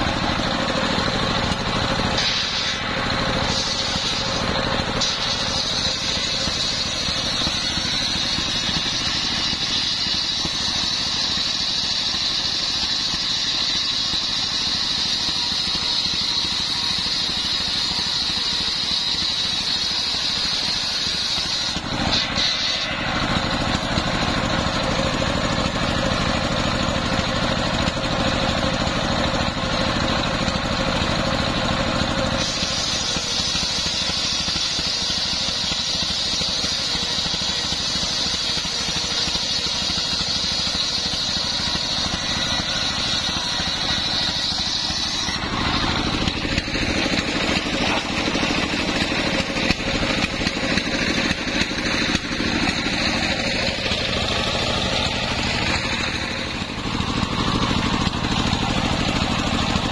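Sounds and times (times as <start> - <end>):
circular saw ripping planks: 0.0 - 27.2, 32.2 - 59.9
diesel engine running: 0.0 - 59.9.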